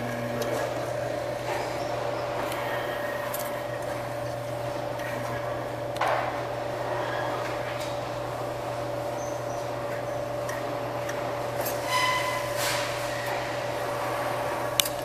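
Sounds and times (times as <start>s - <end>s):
steady electronic hum: 0.0s - 15.0s.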